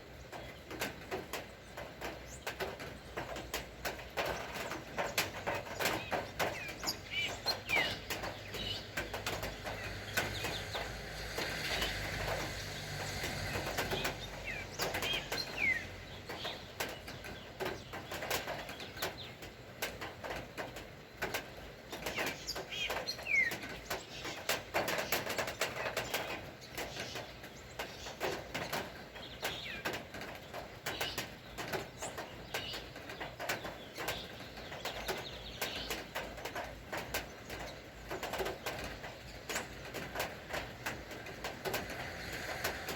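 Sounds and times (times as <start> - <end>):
rain dripping taps: 0.0 - 42.9
birds chirping: 0.2 - 19.6, 20.3 - 42.0.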